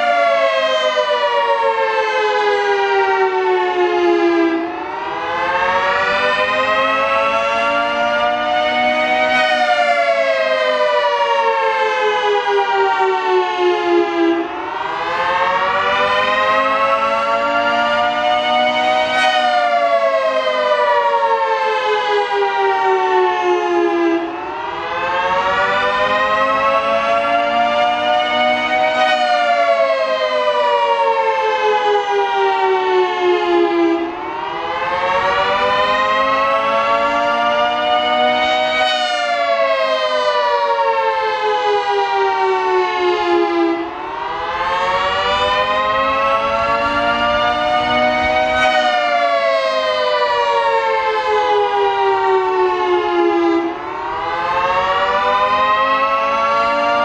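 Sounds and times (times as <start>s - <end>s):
three-tone warning siren: 0.0s - 57.0s.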